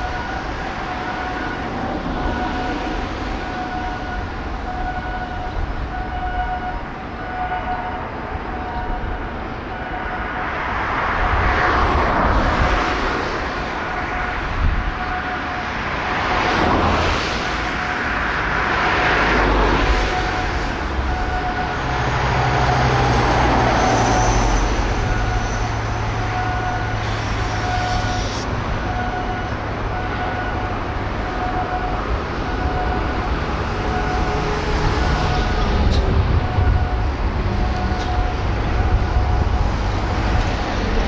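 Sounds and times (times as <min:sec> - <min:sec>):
road traffic passing: 0:00.0 - 0:41.0.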